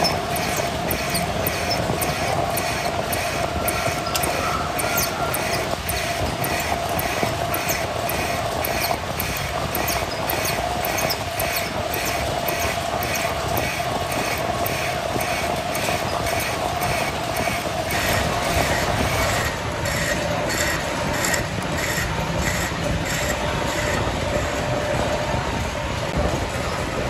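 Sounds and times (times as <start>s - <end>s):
workshop machinery humming: 0.0s - 27.0s.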